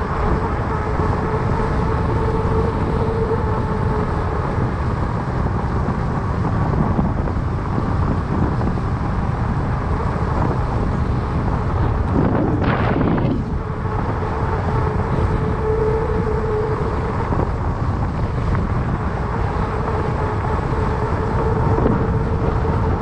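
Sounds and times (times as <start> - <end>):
bike tyres rolling on asphalt: 0.0 - 23.0
faint hum: 0.0 - 23.0
wind rumble on microphone: 0.0 - 23.0.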